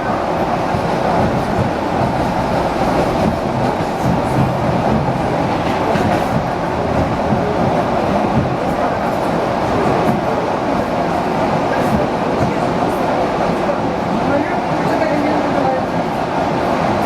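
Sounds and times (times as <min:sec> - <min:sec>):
train wheels rumbling on rails: 0:00.0 - 0:17.0
faint clickety-clack: 0:00.6 - 0:17.0.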